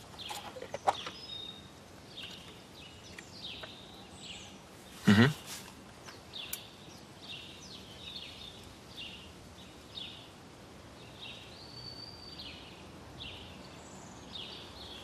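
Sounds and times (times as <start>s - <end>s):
bird chirps: 0.0s - 10.4s, 11.0s - 15.0s
soft background hiss: 0.0s - 15.0s.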